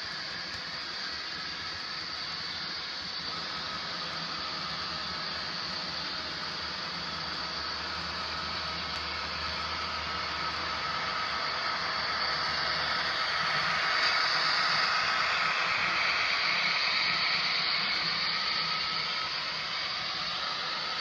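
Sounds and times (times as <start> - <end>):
model train wheels rattling on rail: 3.1 - 21.0.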